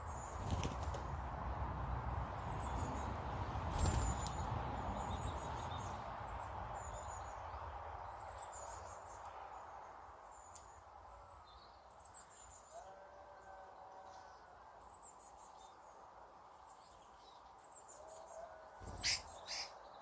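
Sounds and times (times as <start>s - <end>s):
small birds chirping: 0.0s - 1.2s, 2.4s - 12.9s, 14.8s - 20.0s.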